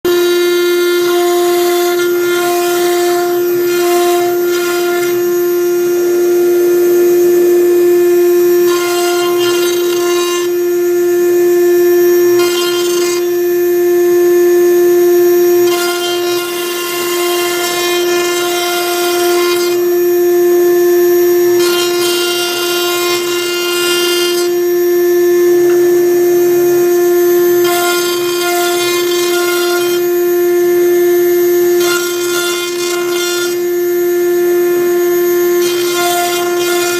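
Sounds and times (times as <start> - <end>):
router spindle whining: 0.0 - 36.9.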